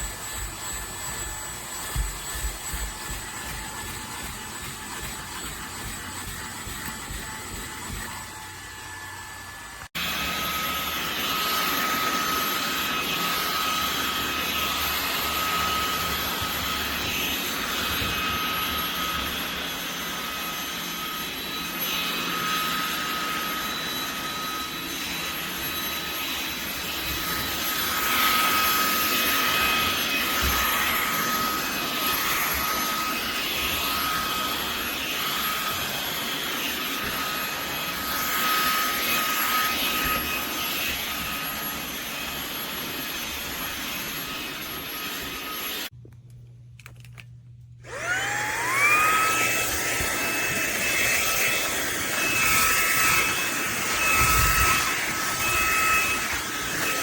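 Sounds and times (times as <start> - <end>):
handheld vacuum running: 0.0 - 46.0, 47.8 - 57.0.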